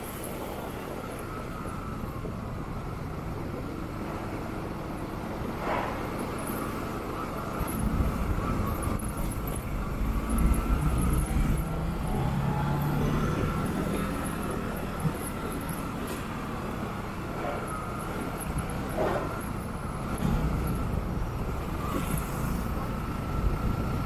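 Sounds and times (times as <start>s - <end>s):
road and traffic noise: 0.0s - 24.0s.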